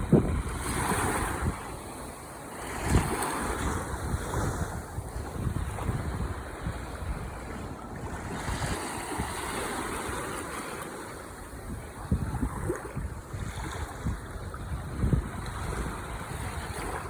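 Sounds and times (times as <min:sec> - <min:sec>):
ocean waves washing ashore: 0:00.0 - 0:17.0
wind rumbling on microphone: 0:00.0 - 0:17.0.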